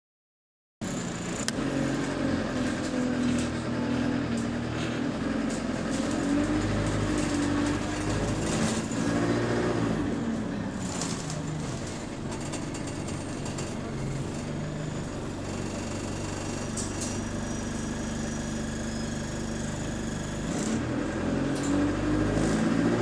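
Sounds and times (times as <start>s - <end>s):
bus engine running: 0.8s - 23.0s.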